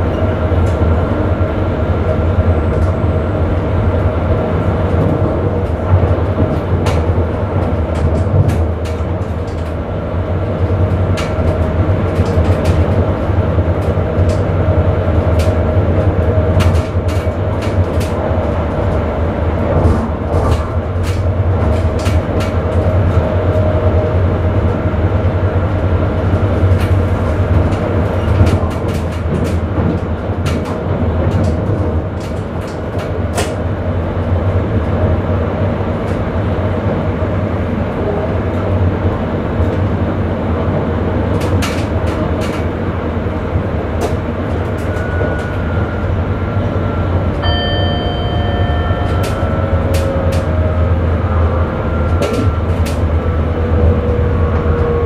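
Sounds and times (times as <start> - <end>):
train rumble: 0.0 - 55.0
wheels clicking on track: 0.0 - 55.0.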